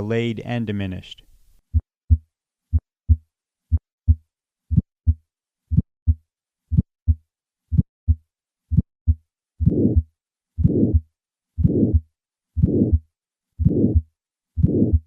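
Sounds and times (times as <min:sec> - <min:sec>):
heartbeat thumps: 0:01.7 - 0:13.0, 0:13.6 - 0:15.0.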